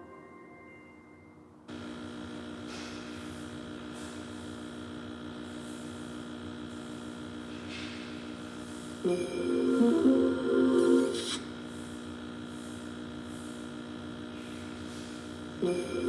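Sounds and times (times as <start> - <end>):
electrical hum and buzz: 1.4 - 16.0.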